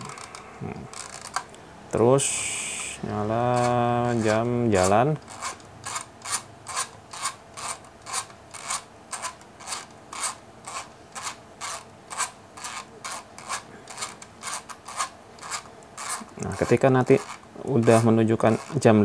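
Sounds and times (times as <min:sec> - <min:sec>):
screwdriver scraping timer dial: 0:00.0 - 0:01.4, 0:03.2 - 0:19.0.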